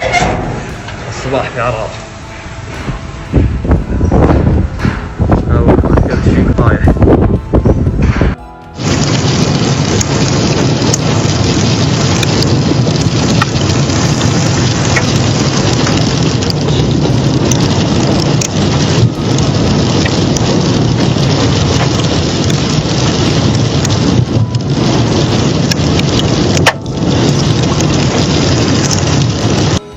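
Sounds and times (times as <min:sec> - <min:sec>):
heavy rain pelting: 0:00.0 - 0:29.9.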